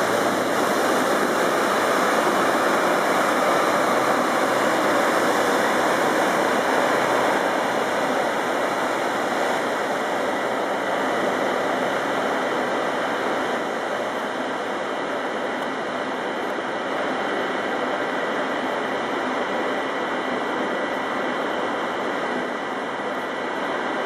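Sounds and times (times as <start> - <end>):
rush of churning water: 0.0 - 24.0.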